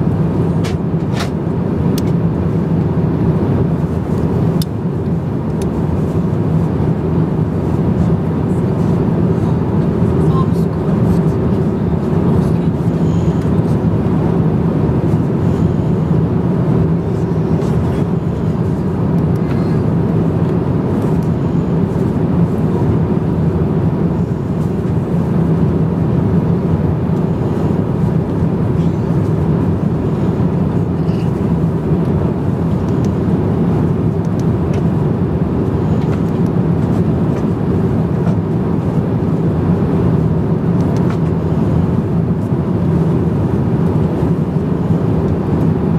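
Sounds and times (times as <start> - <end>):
airliner cabin noise: 0.0 - 45.9.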